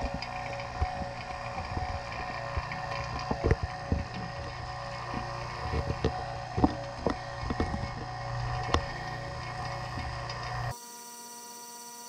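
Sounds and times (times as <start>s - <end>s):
vacuum pump motor hum: 0.0s - 12.0s.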